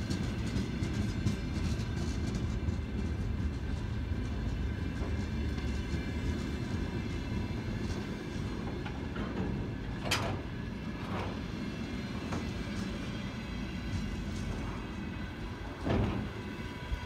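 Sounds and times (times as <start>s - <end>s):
train wagons rolling rumble: 0.0s - 17.0s
train wheels clacking: 0.0s - 17.0s.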